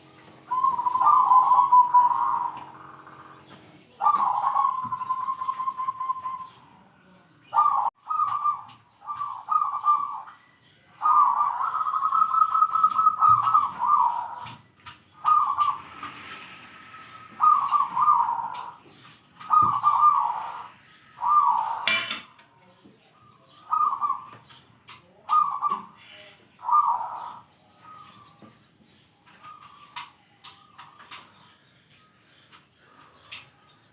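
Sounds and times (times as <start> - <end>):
dove cooing: 0.0 - 6.8, 7.5 - 22.4, 23.1 - 28.6, 29.3 - 31.5.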